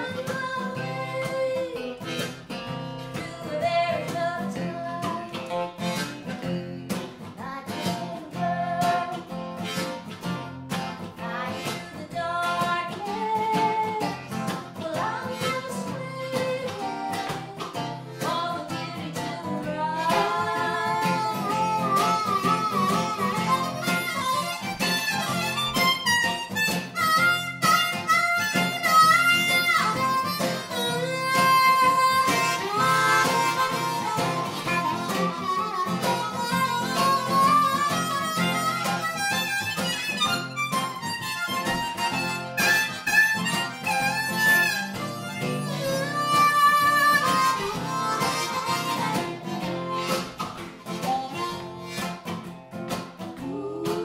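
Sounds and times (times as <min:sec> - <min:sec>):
harmonica solo: 0:00.0 - 0:06.8, 0:07.6 - 0:52.6
acoustic guitar strumming: 0:00.0 - 0:54.0
electric guitar: 0:00.0 - 0:54.0.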